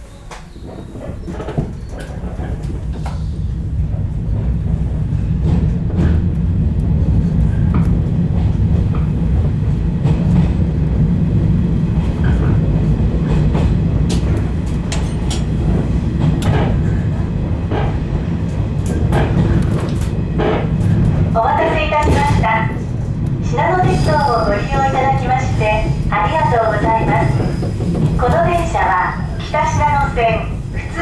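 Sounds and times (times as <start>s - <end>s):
train rumbling on rails: 0.0s - 31.0s
wheels clicking over rail joints: 0.3s - 31.0s.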